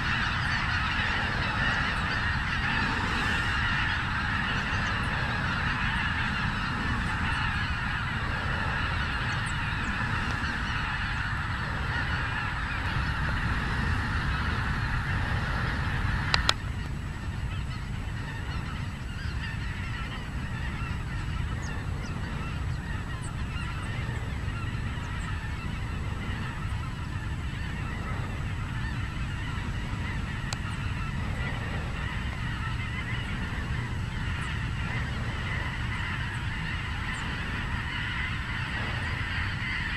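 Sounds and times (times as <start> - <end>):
geese honking in flight: 0.0 - 39.9.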